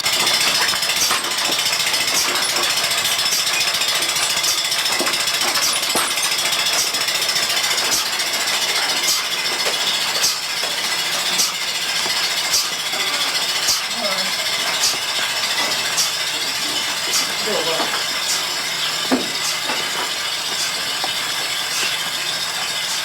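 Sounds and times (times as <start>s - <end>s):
milking machine hissing: 0.0s - 23.0s
pulsator clicking: 0.0s - 23.0s.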